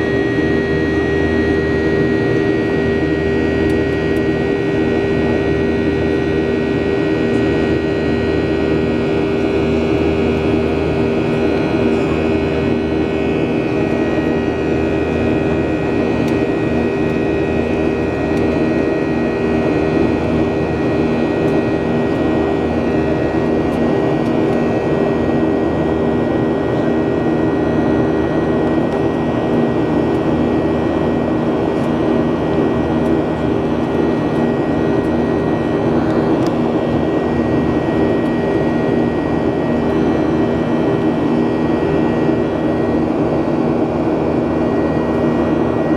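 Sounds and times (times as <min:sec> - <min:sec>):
jet engines whining in cabin: 0:00.0 - 0:45.9.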